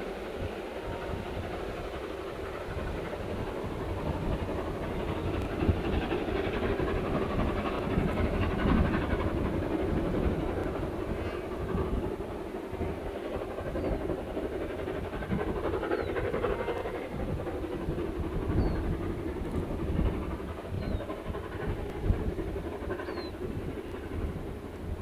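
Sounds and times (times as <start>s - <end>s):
steam train rumbling: 0.0s - 25.0s.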